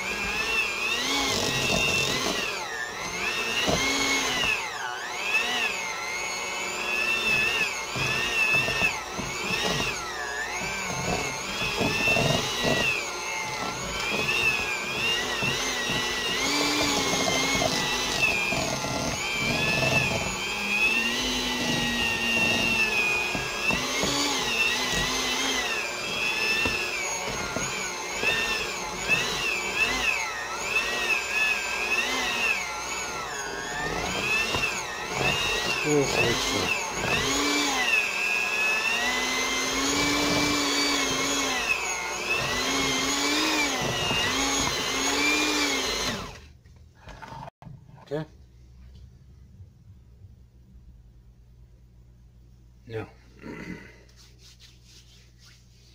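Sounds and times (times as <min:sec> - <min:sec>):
electric mixer whining: 0:00.0 - 0:47.5.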